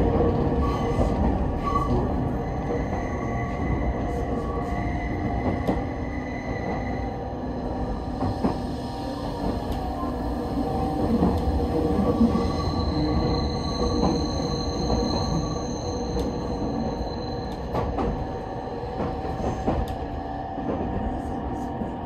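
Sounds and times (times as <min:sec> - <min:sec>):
rail joint clicks: 0:00.0 - 0:07.0, 0:08.0 - 0:10.1, 0:10.9 - 0:22.0
train wheels squealing on rails: 0:00.1 - 0:20.3.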